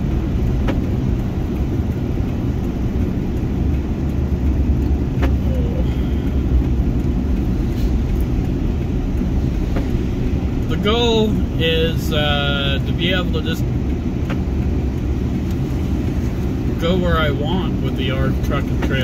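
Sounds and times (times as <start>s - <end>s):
diesel engine rumble: 0.0s - 19.0s
road noise: 0.0s - 19.0s.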